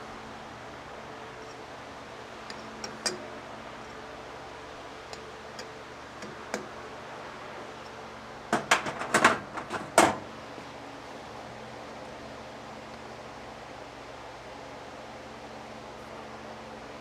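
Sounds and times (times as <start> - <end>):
faint shop hum: 0.0 - 17.0.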